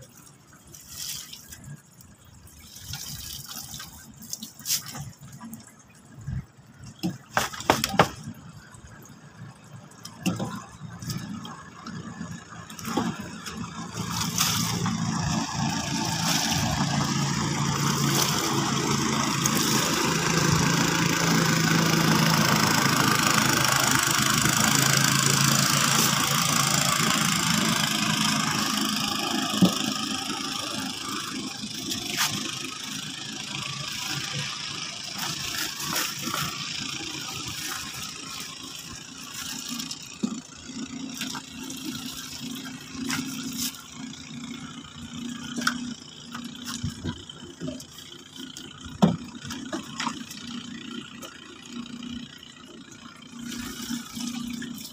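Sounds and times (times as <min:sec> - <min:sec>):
motorboat engine passing: 0:00.0 - 0:54.9.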